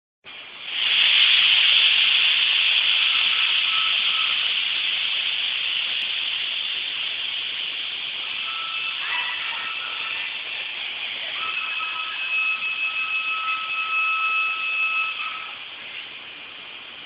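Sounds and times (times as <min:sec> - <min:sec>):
factory background hiss: 0:00.3 - 0:17.0.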